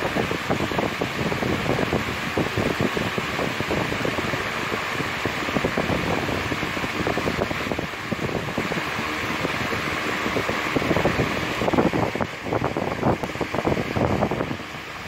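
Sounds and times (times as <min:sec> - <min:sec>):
rushing air: 0:00.0 - 0:15.0
wind buffeting microphone: 0:00.0 - 0:15.0.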